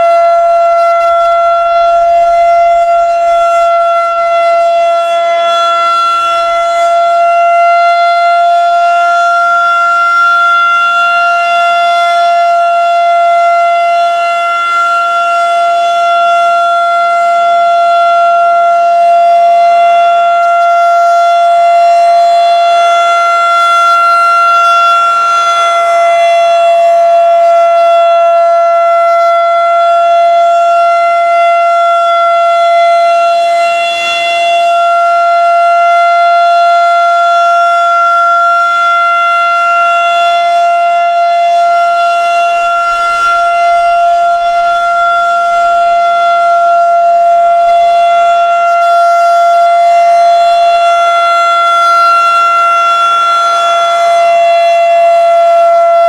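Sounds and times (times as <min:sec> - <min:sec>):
rotating siren single-tone wail: 0:00.0 - 0:56.0.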